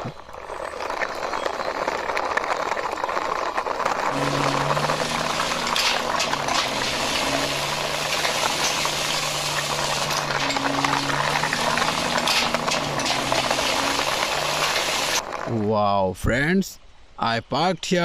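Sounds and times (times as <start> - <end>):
plastic toy rolling and rattling: 0.0 - 15.6.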